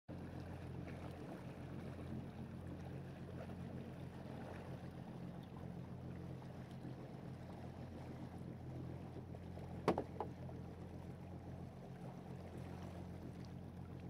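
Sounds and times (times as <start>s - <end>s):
motorboat engine droning: 0.1s - 14.0s
water noise: 0.1s - 14.0s.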